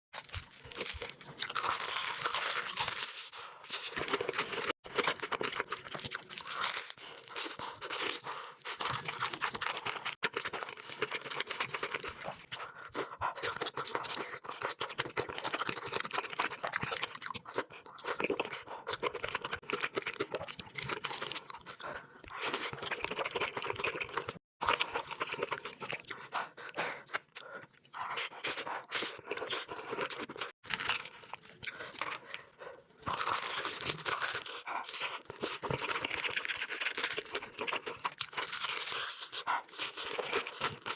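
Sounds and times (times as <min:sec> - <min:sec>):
chewing crisp food: 0:00.2 - 0:40.9.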